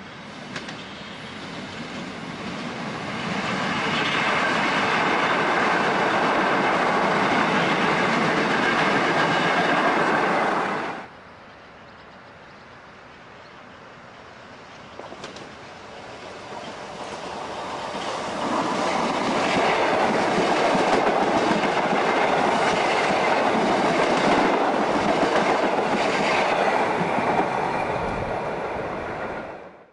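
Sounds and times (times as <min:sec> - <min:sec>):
electric train passing: 0:00.0 - 0:29.9.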